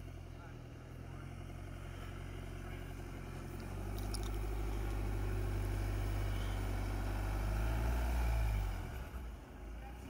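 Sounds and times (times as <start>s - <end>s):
diesel engine at low revs: 0.0s - 10.0s.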